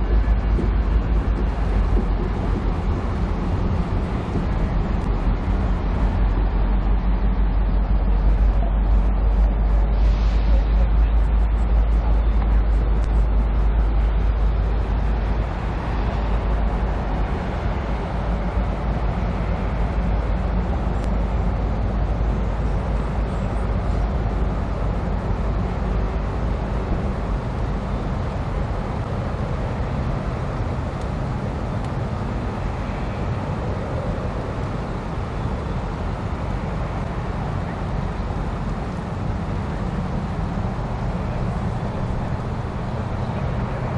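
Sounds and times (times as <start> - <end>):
moving vehicle rumble: 0.0 - 43.9.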